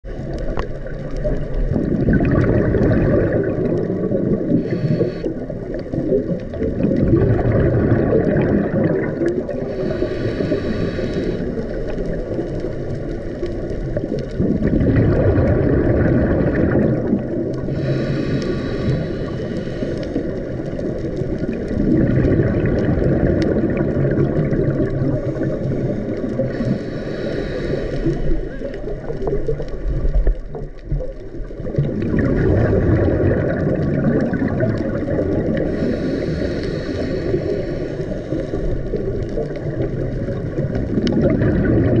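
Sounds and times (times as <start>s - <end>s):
low underwater rumble: 0.0s - 42.0s
regulator bubbles hissing: 0.0s - 42.0s.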